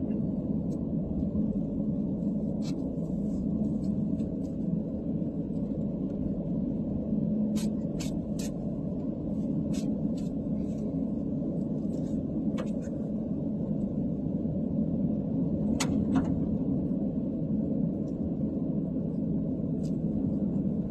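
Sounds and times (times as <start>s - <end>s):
car engine and tyres rumbling: 0.0s - 20.9s.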